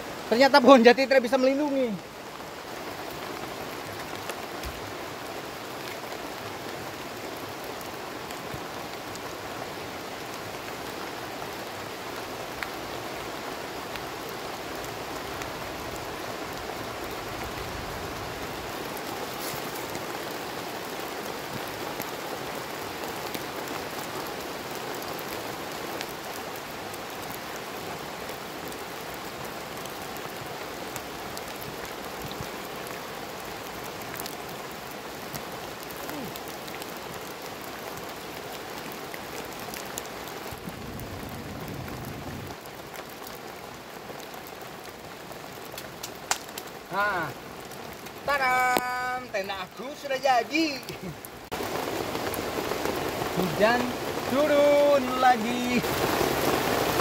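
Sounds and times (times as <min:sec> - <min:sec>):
steady rain through trees: 0:00.0 - 0:57.0.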